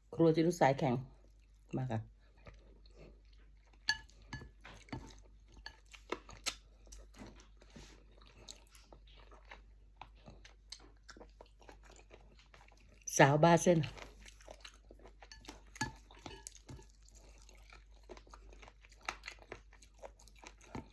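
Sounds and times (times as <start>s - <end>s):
wet chewing and smacking: 1.0s - 13.1s, 13.7s - 20.9s.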